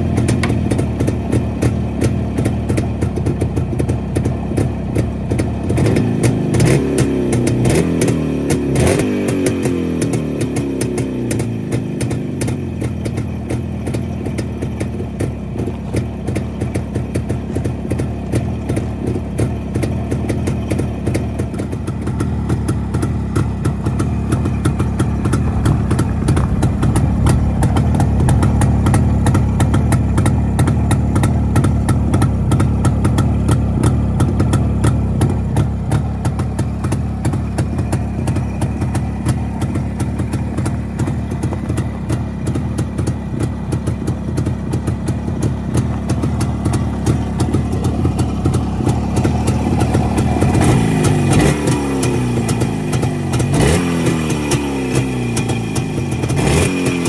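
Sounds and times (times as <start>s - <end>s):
two-stroke engine revving and idling: 0.0s - 57.0s.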